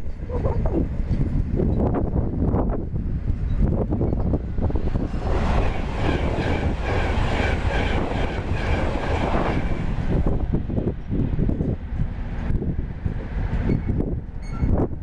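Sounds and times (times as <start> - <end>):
train passing at speed: 0.0 - 15.0
wind buffeting the microphone: 0.0 - 15.0.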